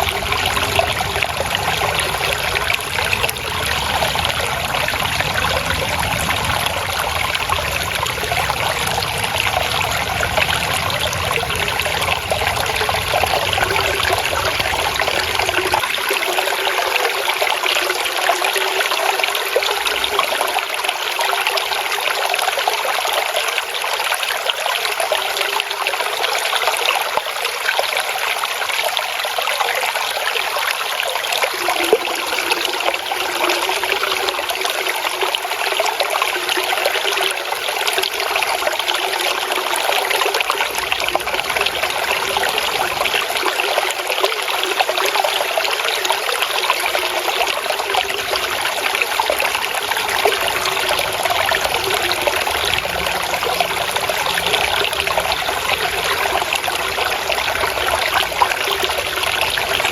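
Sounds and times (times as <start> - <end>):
water trickling and gurgling: 0.0 - 59.9.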